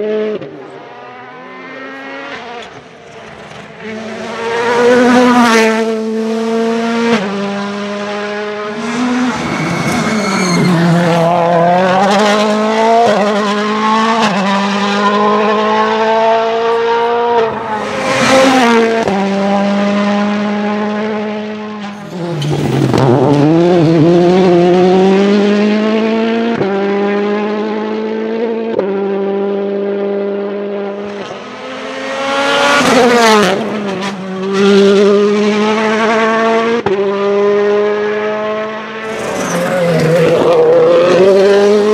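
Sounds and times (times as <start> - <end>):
rally cars passing at full throttle: 0.0 - 41.9.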